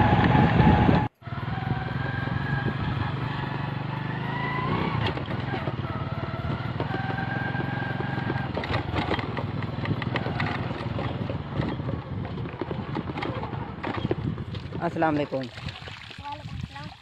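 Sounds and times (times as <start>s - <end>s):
small motorcycle engine running: 0.0s - 15.2s.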